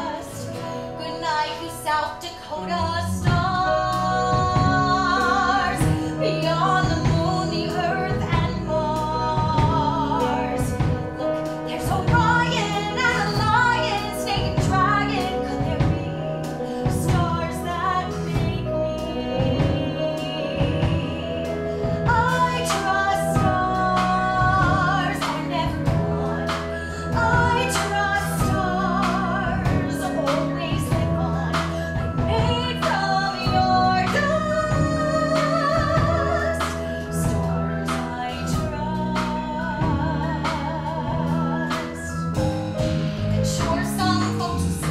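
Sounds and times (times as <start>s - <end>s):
woman singing with vibrato: 0.0s - 42.5s, 43.3s - 44.9s
instrumental accompaniment: 0.0s - 44.9s.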